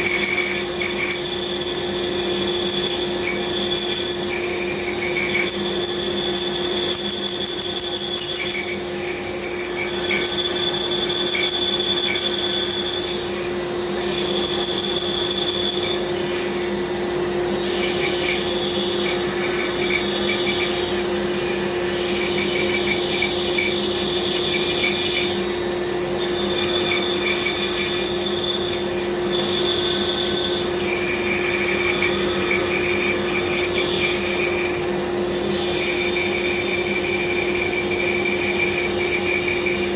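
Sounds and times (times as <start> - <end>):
power tool motor hum: 0.0 - 39.9
rasping cutting noise: 0.0 - 39.9.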